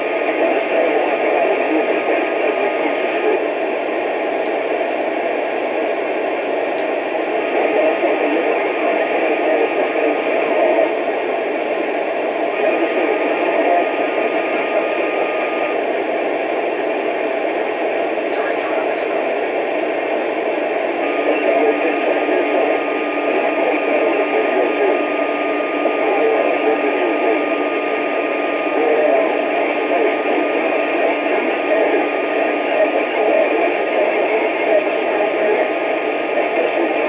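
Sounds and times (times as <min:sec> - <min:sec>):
radio static hiss: 0:00.2 - 0:37.0.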